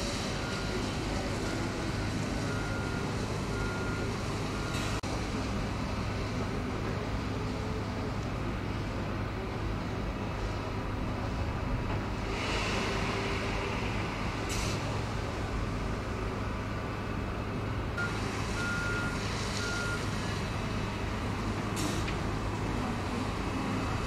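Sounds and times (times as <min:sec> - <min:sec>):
diesel locomotive engine idling: 0:00.0 - 0:24.0.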